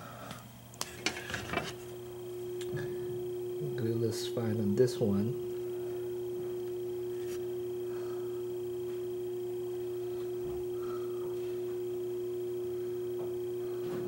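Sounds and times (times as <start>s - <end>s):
low hum: 0.0s - 14.0s
steady mid-pitched tone: 1.1s - 14.0s.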